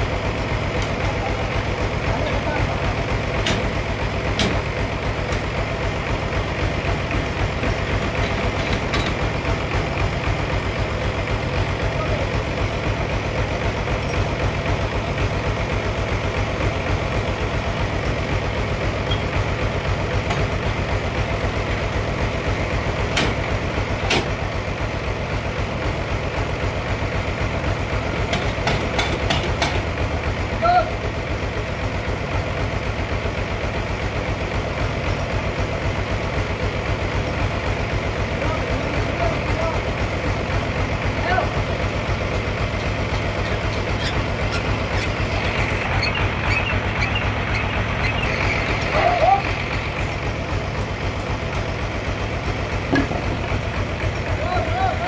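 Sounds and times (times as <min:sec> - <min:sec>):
band sawmill engine droning: 0:00.0 - 0:55.0.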